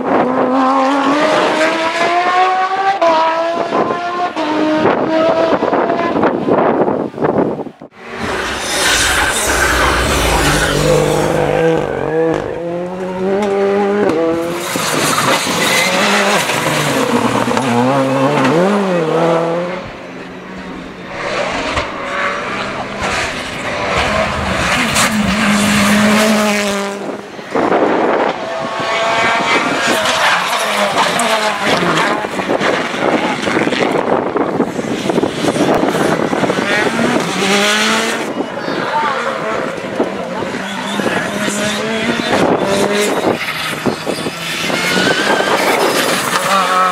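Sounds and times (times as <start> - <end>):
rally cars passing at full speed: 0.0 - 46.9.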